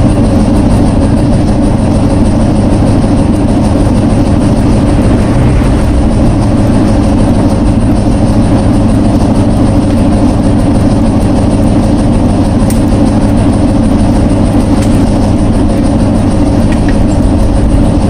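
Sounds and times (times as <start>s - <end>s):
loud mechanical rumble: 0.0s - 18.0s.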